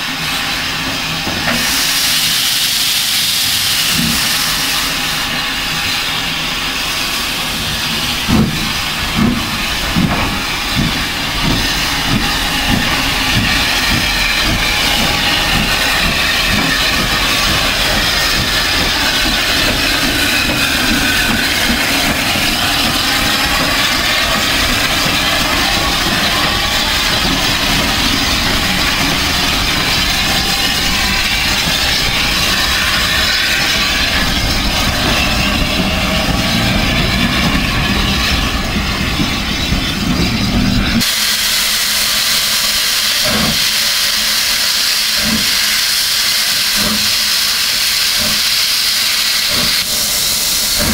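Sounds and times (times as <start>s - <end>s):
steam train rumbling: 0.0s - 50.9s
hiss of escaping steam: 0.1s - 38.2s, 40.9s - 50.9s.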